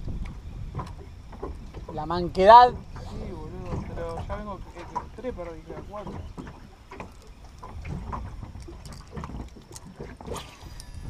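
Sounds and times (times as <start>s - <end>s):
water lapping against boat hull: 0.0s - 11.0s
wind rumbling on microphone: 0.0s - 11.0s.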